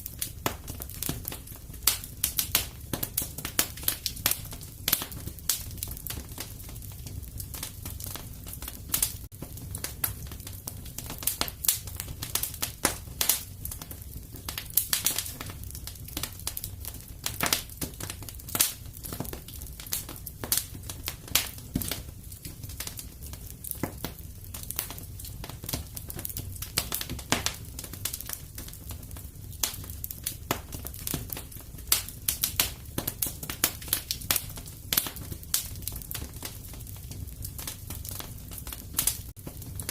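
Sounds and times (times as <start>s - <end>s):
low rumble of fire: 0.0s - 39.9s
wood fire crackling: 0.0s - 39.9s.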